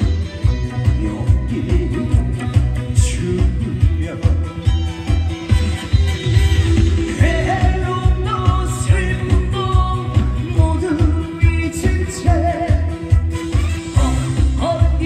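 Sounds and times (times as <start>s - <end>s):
person singing lead vocal: 0.0s - 5.5s, 6.9s - 15.0s
amplified band with bass beat: 0.0s - 15.0s.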